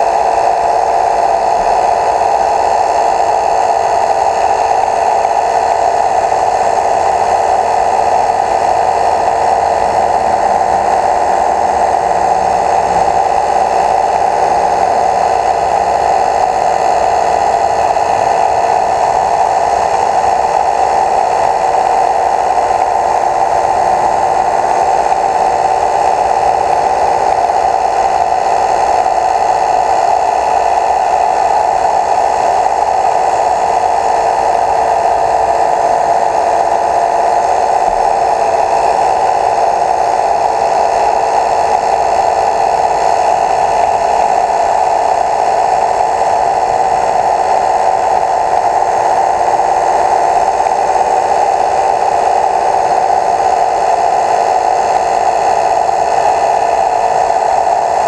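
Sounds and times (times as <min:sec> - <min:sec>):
small motor whirring: 0:00.0 - 0:58.0.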